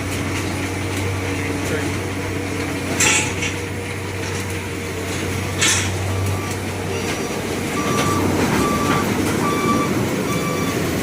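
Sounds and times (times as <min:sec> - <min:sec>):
heavy machine engine humming: 0:00.0 - 0:11.0.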